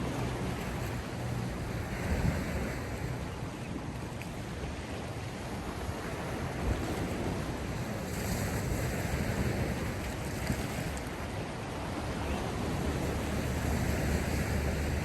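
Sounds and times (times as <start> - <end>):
sea waves washing on shore: 0.0 - 15.0
wind: 0.0 - 15.0.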